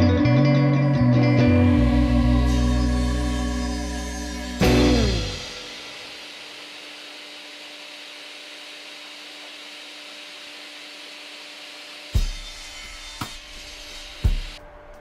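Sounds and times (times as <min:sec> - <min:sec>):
power tool running: 0:01.4 - 0:14.6.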